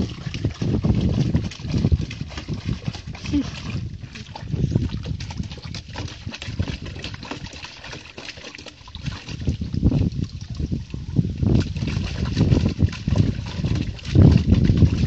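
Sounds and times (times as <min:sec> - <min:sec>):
puppy splashing in water: 0:00.0 - 0:15.0
water sloshing: 0:00.0 - 0:15.0.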